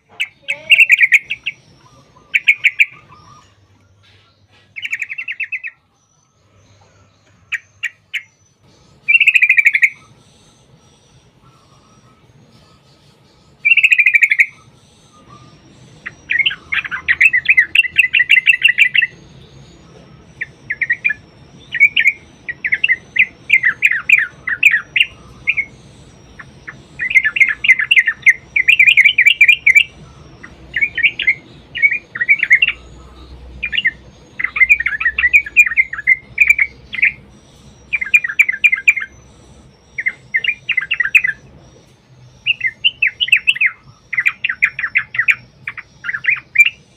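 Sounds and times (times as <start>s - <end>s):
bulbul singing chattering phrases: 0.0s - 46.9s.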